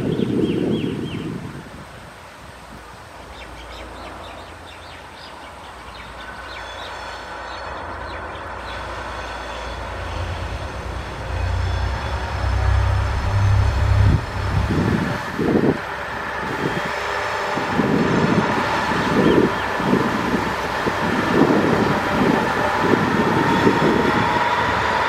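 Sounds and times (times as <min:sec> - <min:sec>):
diesel locomotive engine rumble: 0:00.0 - 0:25.0.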